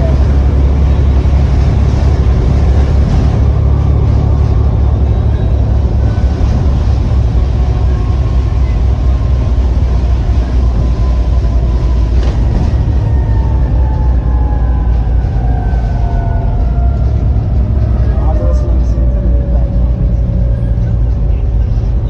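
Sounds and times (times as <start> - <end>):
bus diesel engine droning: 0.0 - 22.0.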